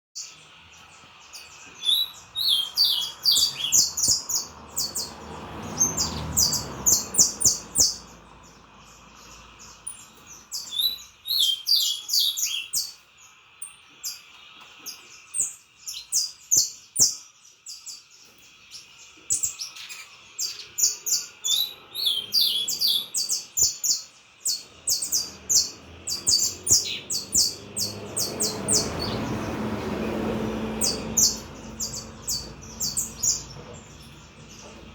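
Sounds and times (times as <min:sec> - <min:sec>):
finch singing: 0:00.2 - 0:34.9.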